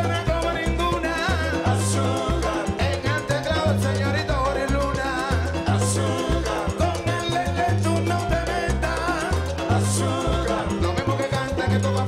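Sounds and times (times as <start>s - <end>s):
salsa band playing: 0.0s - 12.0s
syncopated bass line: 0.0s - 12.0s.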